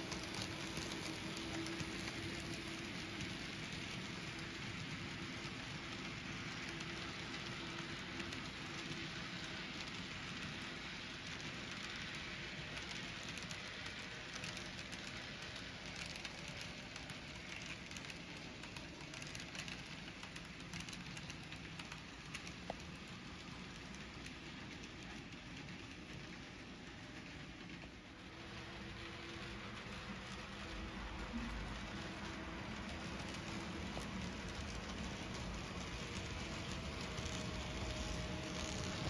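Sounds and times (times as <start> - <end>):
model train wheels rattling on rail: 0.0 - 39.0.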